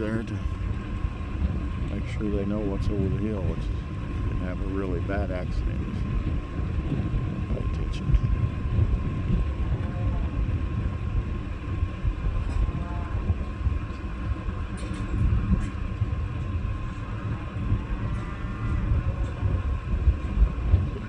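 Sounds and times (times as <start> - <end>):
engine idling: 0.0 - 21.0
thin steady whine: 0.0 - 21.0.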